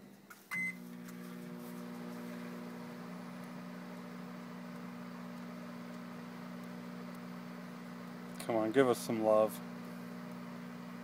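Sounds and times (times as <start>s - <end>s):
microwave humming: 0.0s - 11.0s
microwave oven beeping: 0.0s - 11.0s.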